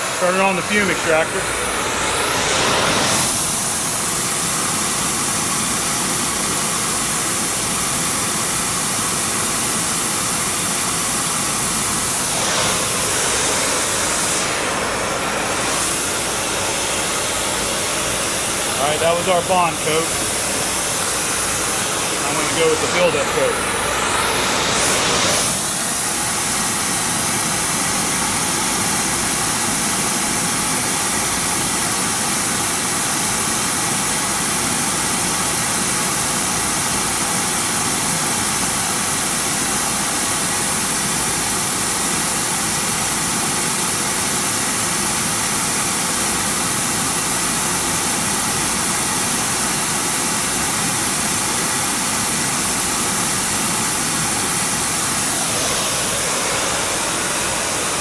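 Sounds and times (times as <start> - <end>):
fume extractor running: 0.0 - 58.0
spray torch hissing: 0.0 - 58.0.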